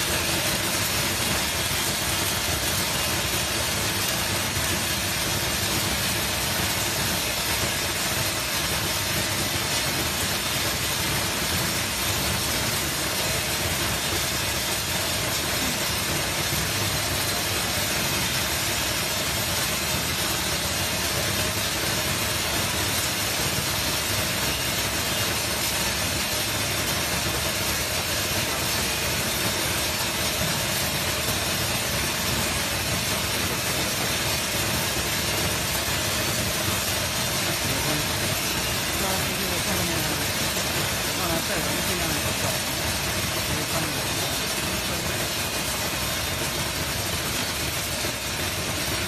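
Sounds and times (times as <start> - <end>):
sorting machine hissing: 0.0 - 49.0.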